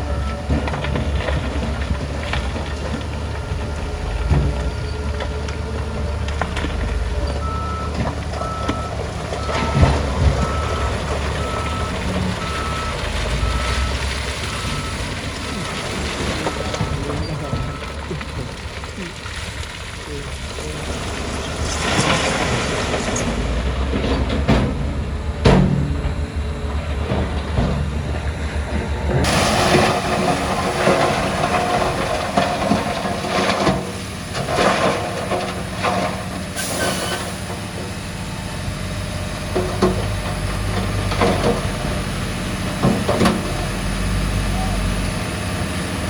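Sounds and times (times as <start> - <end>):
bulldozer diesel engine: 0.0 - 46.0.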